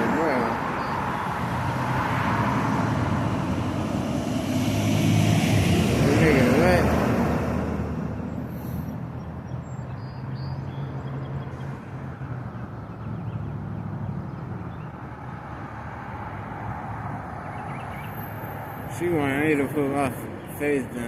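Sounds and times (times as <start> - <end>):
vehicle engine hum: 0.0 - 21.0
wind and road noise: 0.0 - 21.0.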